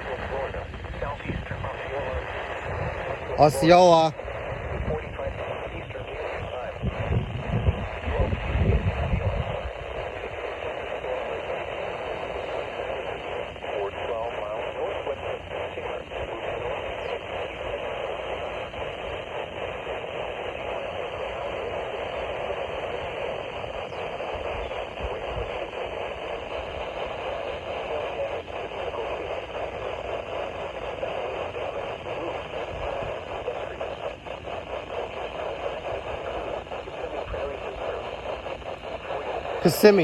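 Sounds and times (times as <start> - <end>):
radio static hiss: 0.0 - 40.0.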